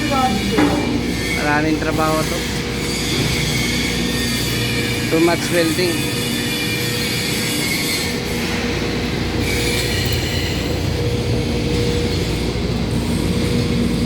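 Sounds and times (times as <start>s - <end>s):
machinery noise with low rumble: 0.0s - 14.0s.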